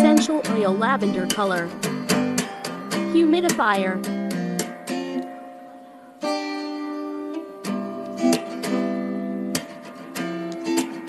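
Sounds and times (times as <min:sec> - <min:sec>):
guitar chords ringing: 0:00.0 - 0:11.0.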